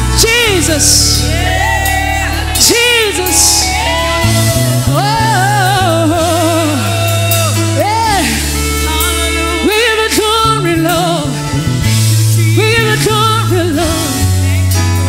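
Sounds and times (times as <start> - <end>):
instrumental accompaniment: 0.0 - 15.0
person singing with vibrato: 0.0 - 15.0.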